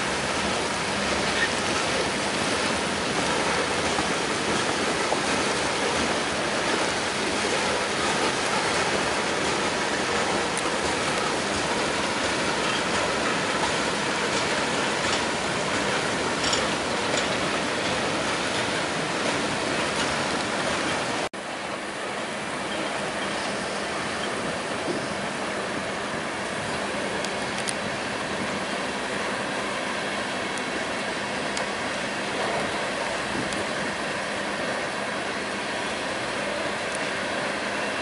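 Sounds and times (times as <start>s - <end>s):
freight train wheels rolling on rails: 0.0s - 38.0s.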